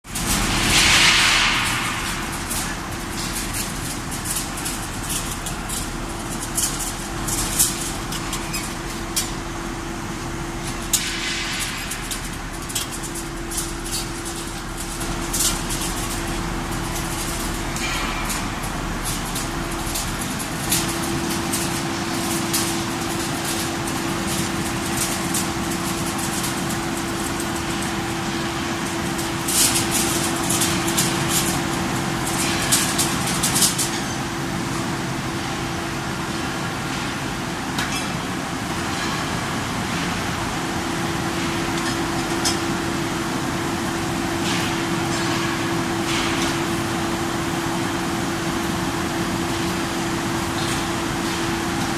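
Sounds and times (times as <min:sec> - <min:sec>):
factory machinery hum: 0:00.1 - 0:51.9.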